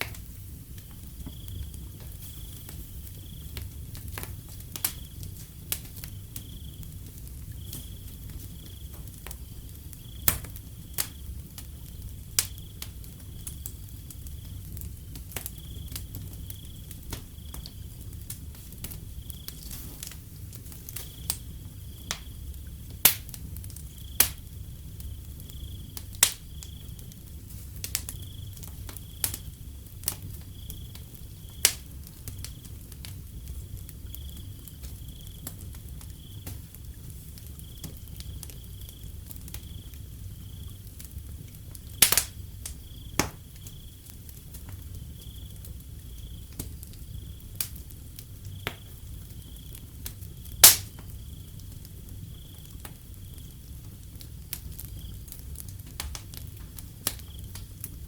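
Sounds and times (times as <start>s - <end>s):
cricket chirping: 0.0s - 58.0s
low rumble of flames: 0.0s - 58.0s
wood fire crackling and popping: 0.0s - 58.0s.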